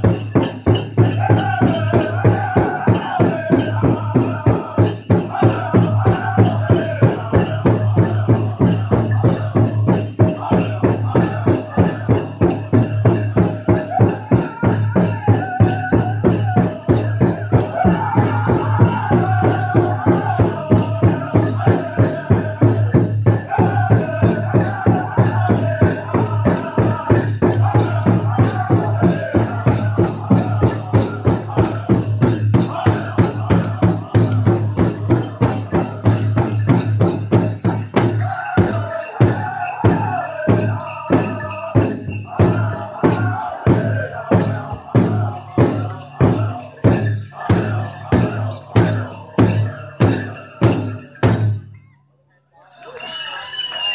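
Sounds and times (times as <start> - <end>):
fast big drum beat: 0.0 - 51.7
group singing in high voices: 0.0 - 51.7.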